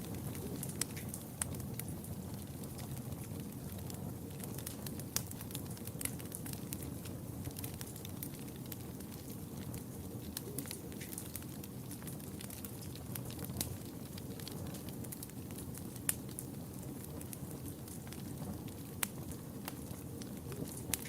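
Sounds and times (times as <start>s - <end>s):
fire crackles and pops: 0.0s - 21.0s
low rumble of fire flames: 0.0s - 21.0s.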